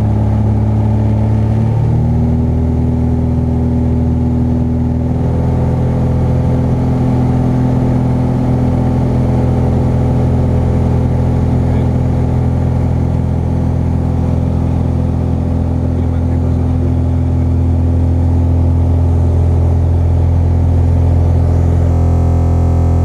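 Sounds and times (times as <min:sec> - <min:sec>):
light aircraft engine and propeller: 0:00.0 - 0:23.0.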